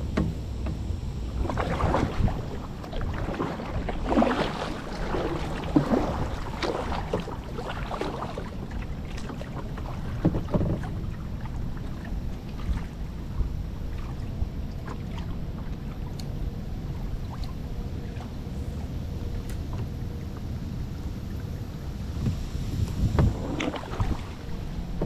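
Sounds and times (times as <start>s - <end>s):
water splashing around kayak: 0.0s - 25.0s
wind rumble on microphone: 0.0s - 25.0s.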